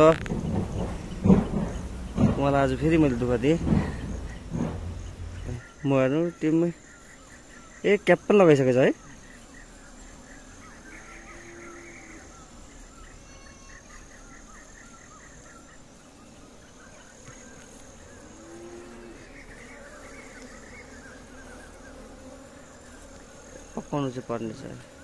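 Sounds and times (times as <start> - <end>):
bees buzzing: 0.0 - 25.0
bird calls: 0.0 - 25.0.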